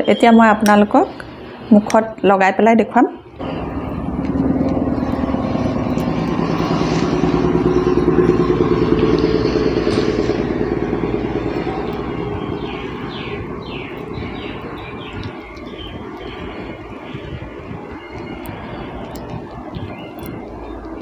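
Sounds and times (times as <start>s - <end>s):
passing engine: 3.2s - 21.0s.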